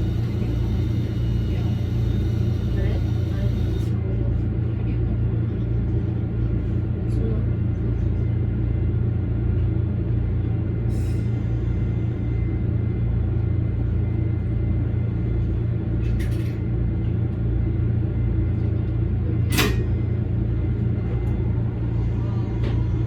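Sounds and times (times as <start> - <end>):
train interior low rumble: 0.0 - 23.0.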